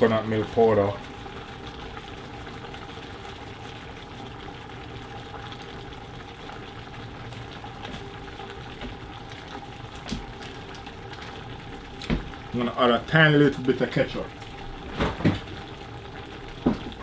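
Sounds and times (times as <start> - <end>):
curry bubbling in a pot: 0.0 - 17.0.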